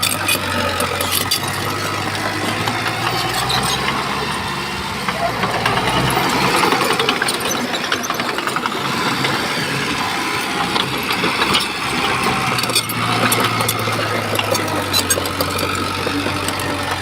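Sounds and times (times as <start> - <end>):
bulldozer diesel engine running: 0.0 - 17.0
clicks and clatter: 0.0 - 17.0.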